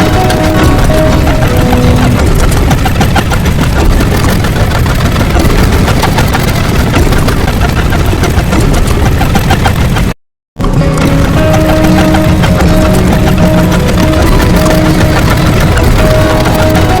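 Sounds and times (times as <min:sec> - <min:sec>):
loud continuous rumbling: 0:00.0 - 0:17.0.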